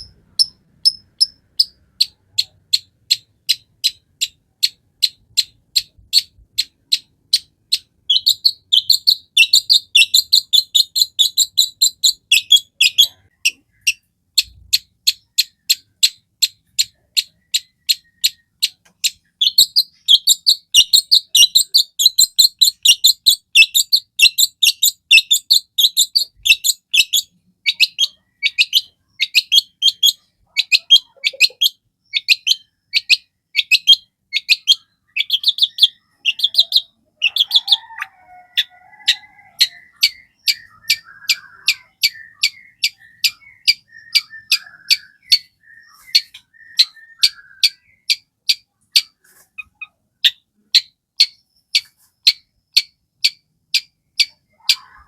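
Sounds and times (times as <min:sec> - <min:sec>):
bird chattering song: 0:00.0 - 0:55.0.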